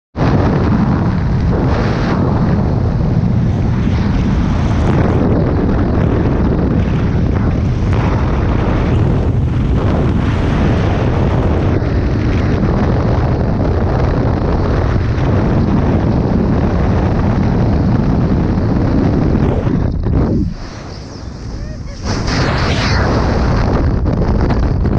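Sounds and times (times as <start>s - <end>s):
plane engine and propeller: 0.2s - 23.9s
wind buffeting microphone: 0.2s - 24.9s.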